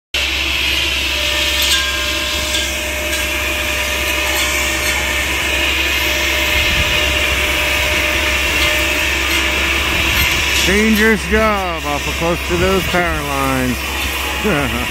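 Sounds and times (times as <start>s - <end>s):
tree-trimming saw droning: 0.2s - 14.9s.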